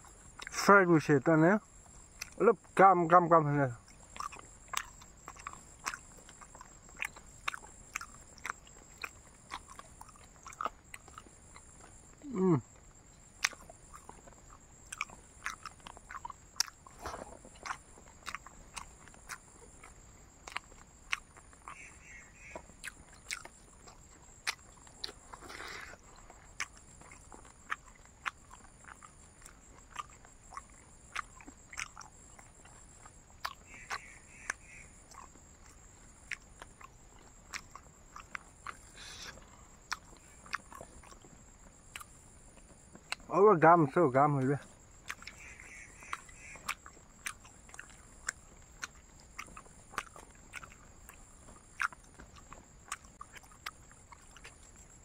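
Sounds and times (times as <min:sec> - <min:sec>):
crunchy chewing: 0:00.0 - 0:55.0
mouth clicks: 0:00.4 - 0:41.3, 0:41.9 - 0:55.0.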